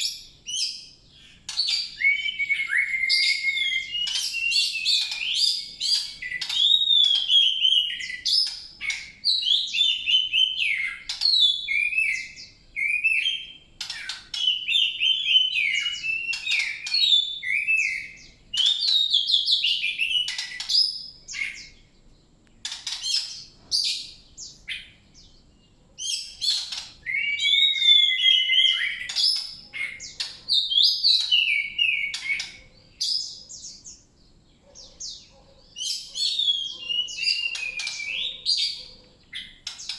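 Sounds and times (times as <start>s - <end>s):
songbird warbling and chirping: 0.0s - 39.9s.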